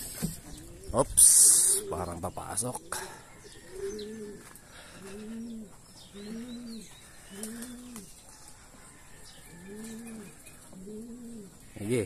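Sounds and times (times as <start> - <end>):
pigeon cooing: 0.5 - 8.1, 9.5 - 12.0.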